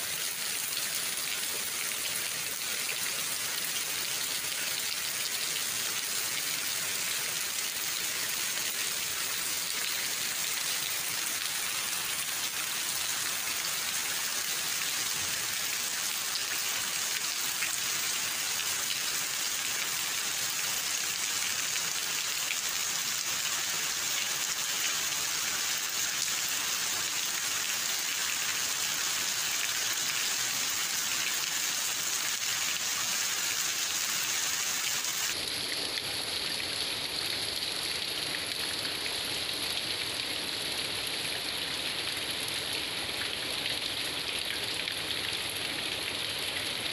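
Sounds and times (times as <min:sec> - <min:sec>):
rain on concrete and leaves: 0:00.0 - 0:46.9.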